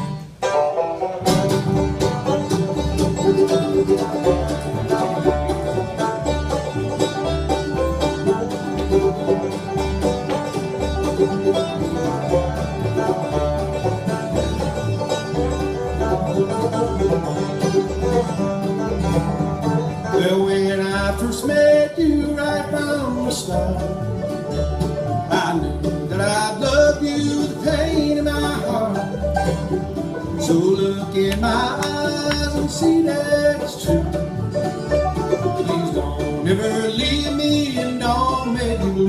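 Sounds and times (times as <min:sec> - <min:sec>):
banjo: 0:00.0 - 0:39.0
bass line: 0:00.0 - 0:39.0
bluegrass band playing: 0:00.0 - 0:39.0.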